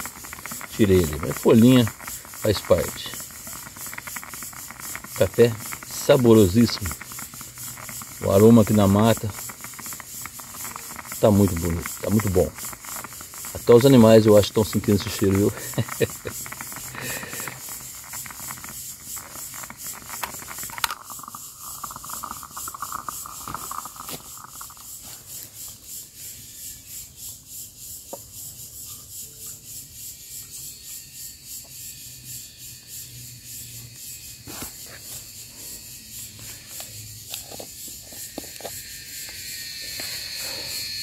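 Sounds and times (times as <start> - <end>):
hiss: 0.0 - 41.0
insects chirping: 0.0 - 41.0.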